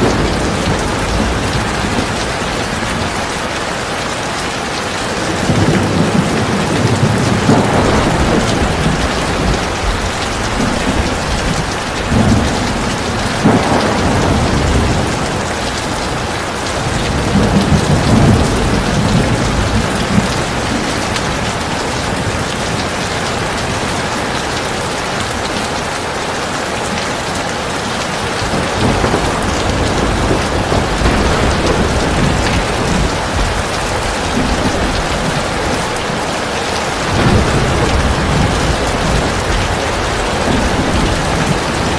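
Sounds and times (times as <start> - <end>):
thunder rumbling: 0.0 - 25.5, 28.2 - 41.9
heavy rain pouring: 0.0 - 41.9.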